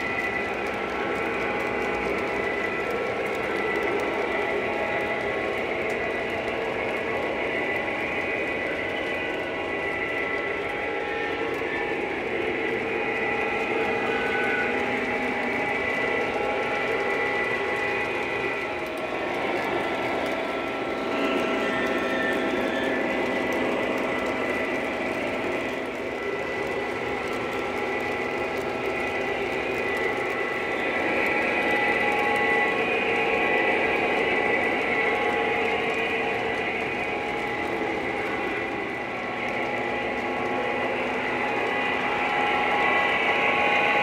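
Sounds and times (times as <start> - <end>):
model trains whirring and rumbling: 0.0 - 44.0.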